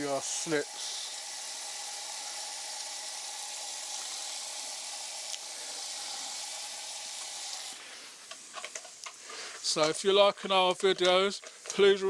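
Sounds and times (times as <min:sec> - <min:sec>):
water spraying: 0:00.0 - 0:10.6.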